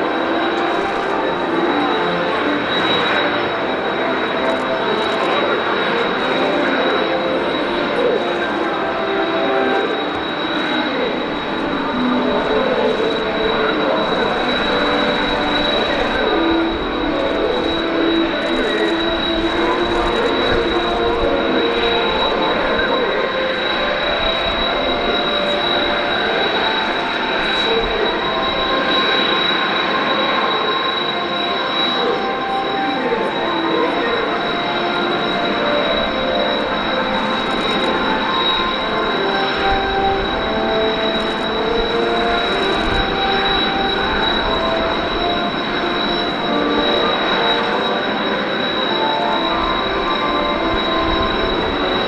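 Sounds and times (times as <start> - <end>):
high engine whine: 0.0 - 52.0
jet engine rushing: 0.0 - 52.0
wavering tones: 0.0 - 52.0.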